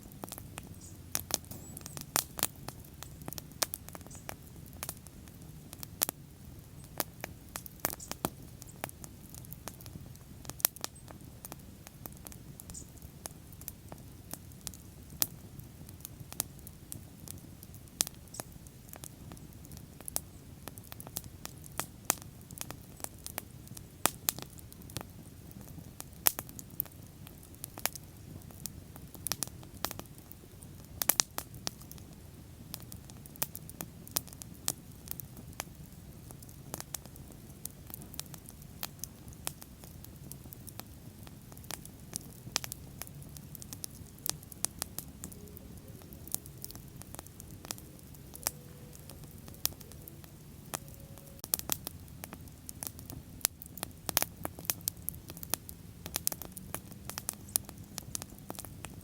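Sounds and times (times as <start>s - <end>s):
bonfire crackling and popping: 0.0s - 59.0s
low rumble of flames: 0.0s - 59.0s.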